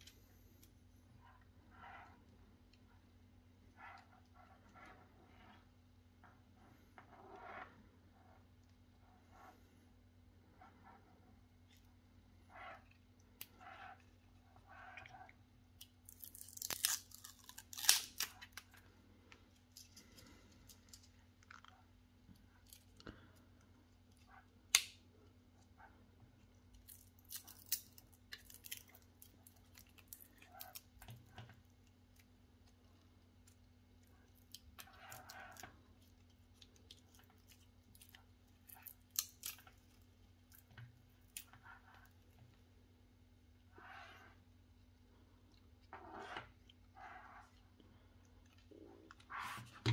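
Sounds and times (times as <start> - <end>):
faint low hum: 0.0 - 49.9.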